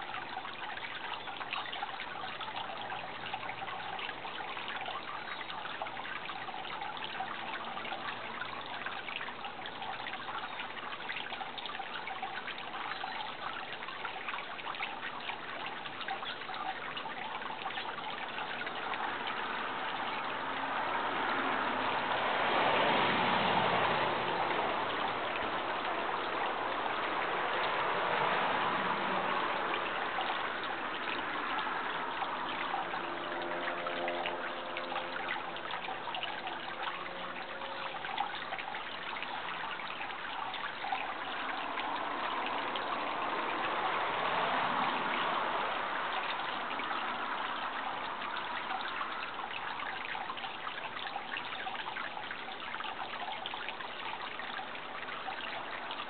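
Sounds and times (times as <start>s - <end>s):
faint steady hum: 0.0s - 22.4s, 23.7s - 56.0s
water trickling and running: 0.0s - 56.0s.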